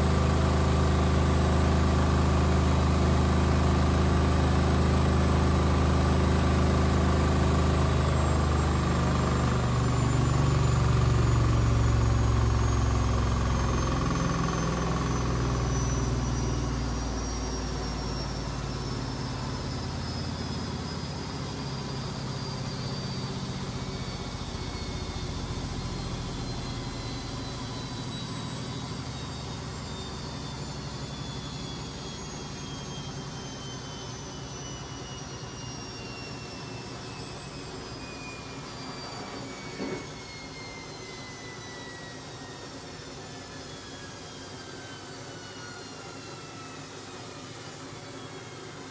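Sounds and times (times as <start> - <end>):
washing machine motor whine: 0.0 - 48.9.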